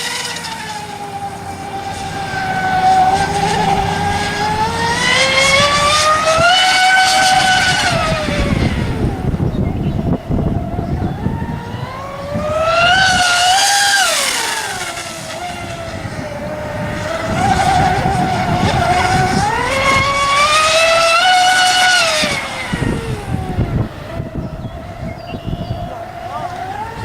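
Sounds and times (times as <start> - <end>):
model boat motor whine: 0.0 - 27.0.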